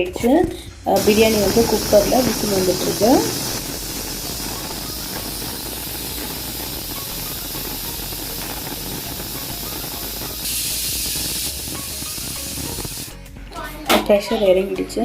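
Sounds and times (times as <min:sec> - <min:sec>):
pressure cooker whistle hissing: 0:01.0 - 0:13.2.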